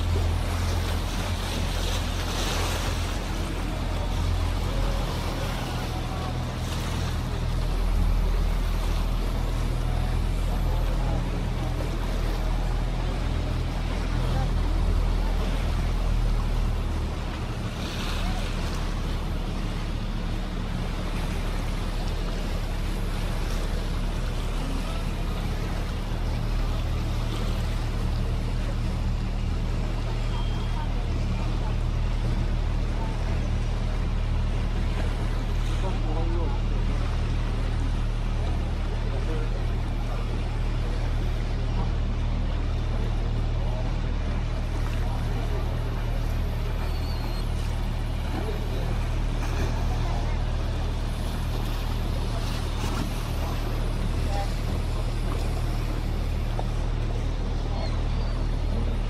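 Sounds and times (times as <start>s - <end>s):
boat engine droning: 0.0s - 59.0s
water noise: 0.0s - 59.0s
wind: 0.0s - 59.0s.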